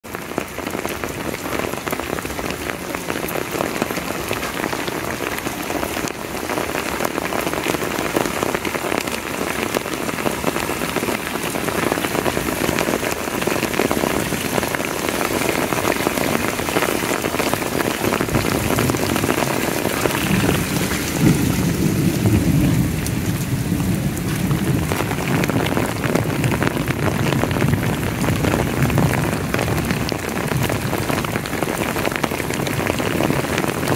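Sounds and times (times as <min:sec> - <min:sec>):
heavy rain on pavement: 0:00.0 - 0:33.9.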